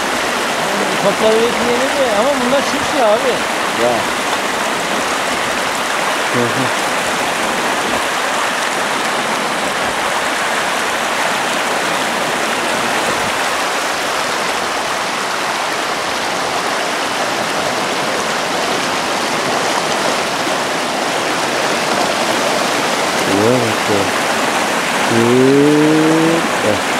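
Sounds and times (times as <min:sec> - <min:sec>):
creek water rushing over rocks: 0:00.0 - 0:26.9.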